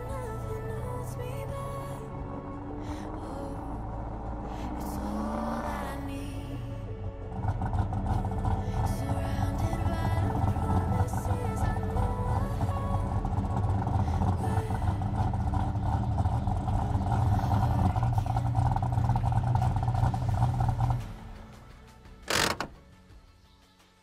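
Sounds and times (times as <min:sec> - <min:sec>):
car engine running: 0:00.0 - 0:22.9.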